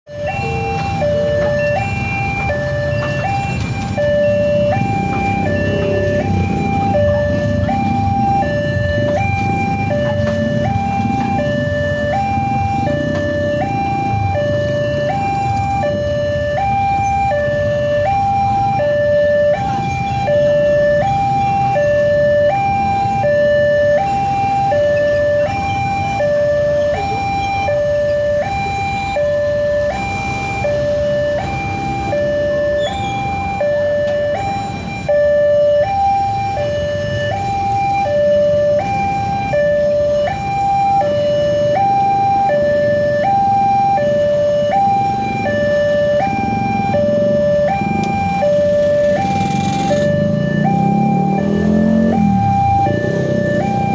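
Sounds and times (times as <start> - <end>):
level crossing two-tone alarm: 0.1 - 53.9.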